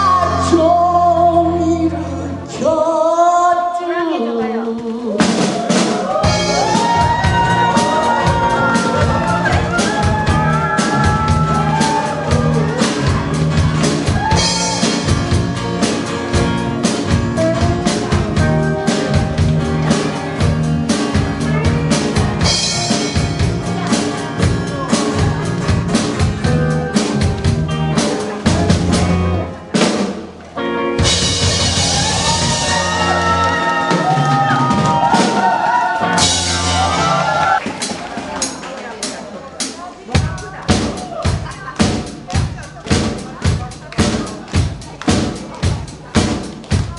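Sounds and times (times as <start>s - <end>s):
live rock band playing: 0.0s - 3.5s, 4.2s - 46.9s.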